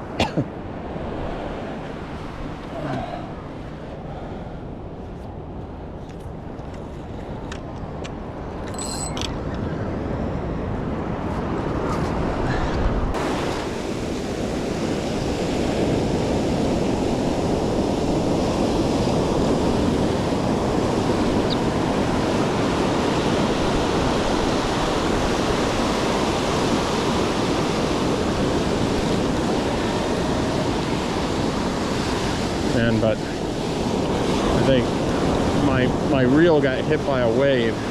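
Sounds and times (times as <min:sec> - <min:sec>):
ocean surf: 0:00.0 - 0:37.9.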